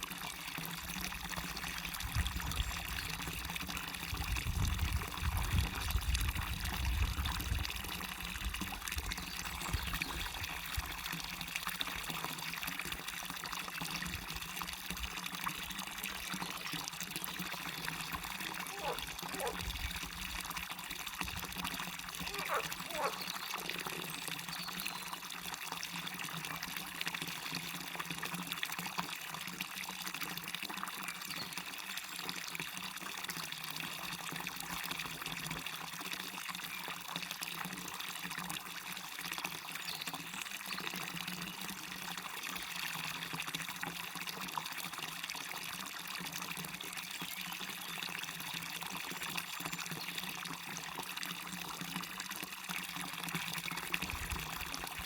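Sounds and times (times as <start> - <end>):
small waterfall and stream: 0.0 - 55.0.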